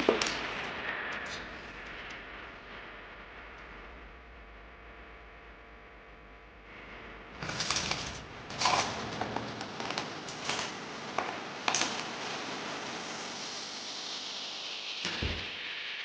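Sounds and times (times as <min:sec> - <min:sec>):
steady hiss: 0:00.0 - 0:05.1, 0:06.6 - 0:16.0.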